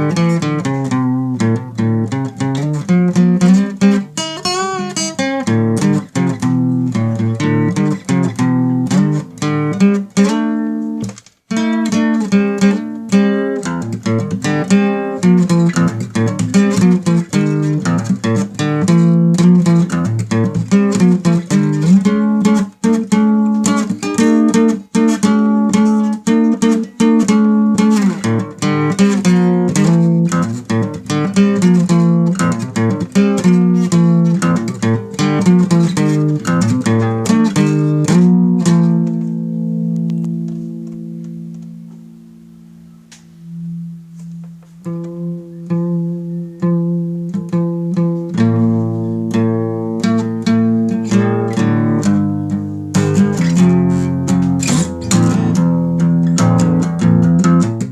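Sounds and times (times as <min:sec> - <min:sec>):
guitar plucking fast notes: 0:00.0 - 0:57.9.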